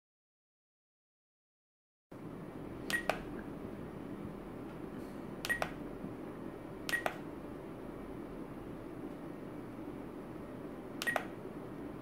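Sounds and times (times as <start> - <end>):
low background hum: 2.1 - 12.0.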